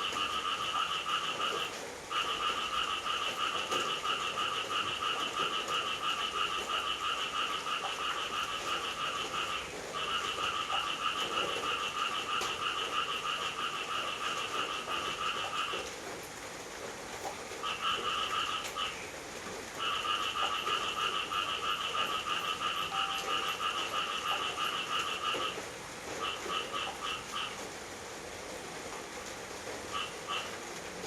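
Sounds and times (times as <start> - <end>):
frog trilling: 0.0 - 15.8, 17.6 - 19.0, 19.8 - 25.6, 26.2 - 27.6, 29.9 - 30.5.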